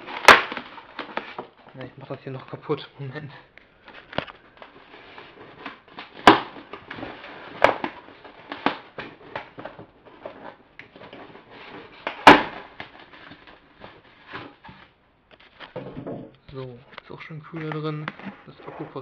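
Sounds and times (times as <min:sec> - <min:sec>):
plastic packaging crackling: 0:00.0 - 0:15.8.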